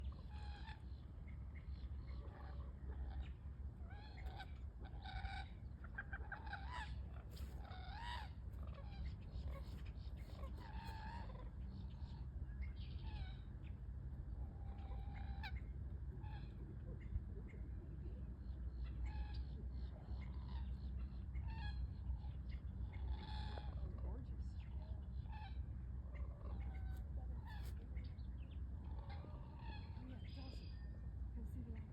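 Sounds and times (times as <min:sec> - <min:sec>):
birds squawking and clucking: 0:00.0 - 0:31.9
steady low rumble: 0:00.0 - 0:31.9.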